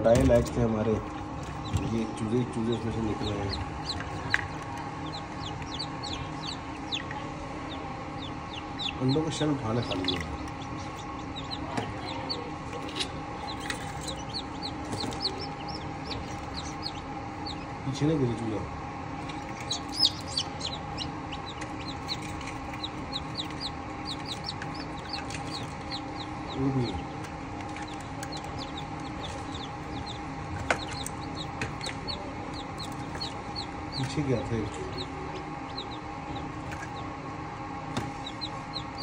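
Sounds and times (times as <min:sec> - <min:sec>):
chicks peeping: 0:00.0 - 0:18.5, 0:19.1 - 0:39.0
steady hum: 0:00.0 - 0:39.0.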